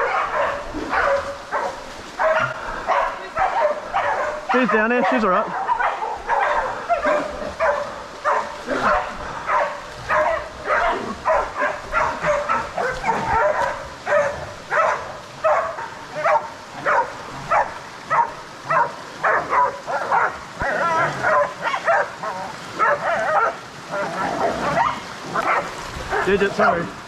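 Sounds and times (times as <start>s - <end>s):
hunting dogs barking: 0.0s - 27.0s.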